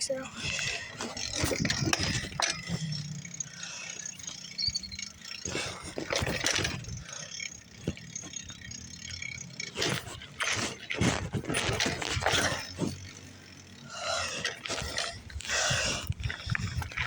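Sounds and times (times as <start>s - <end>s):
bicycle rattling and clattering: 0.0s - 17.0s.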